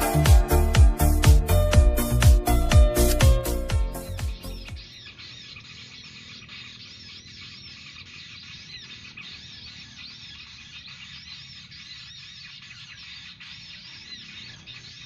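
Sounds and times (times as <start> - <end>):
small bird chirping: 0.0 - 15.0
steady outdoor hiss: 0.0 - 15.0.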